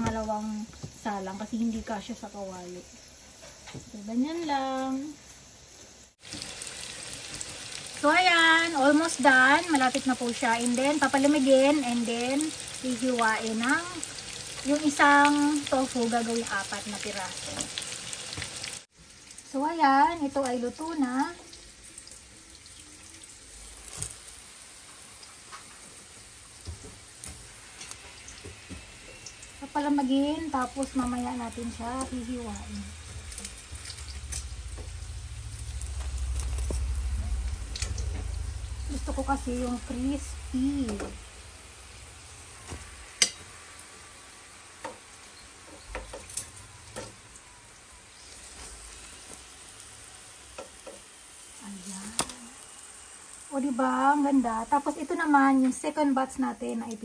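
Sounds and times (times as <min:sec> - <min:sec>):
oil crackling in a frying pan: 0:00.0 - 0:57.0.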